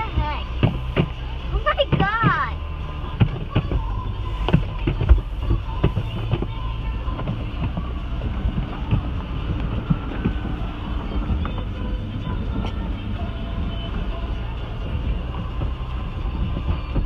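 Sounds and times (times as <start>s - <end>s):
car wash water spray and machinery: 0.0s - 17.0s.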